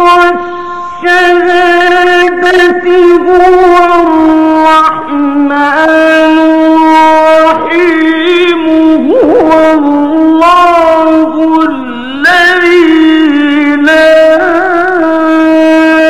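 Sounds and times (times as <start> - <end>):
man reciting melodically: 1.0 - 16.0.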